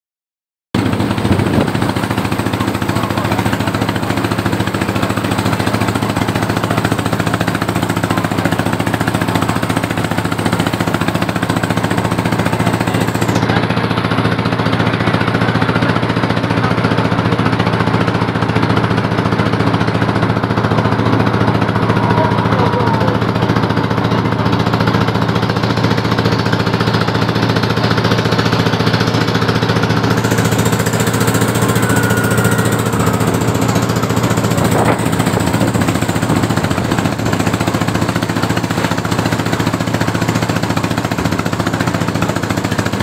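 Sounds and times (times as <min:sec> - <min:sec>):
boat engine running: 0:00.8 - 0:43.0
water splashing along hull: 0:00.8 - 0:43.0.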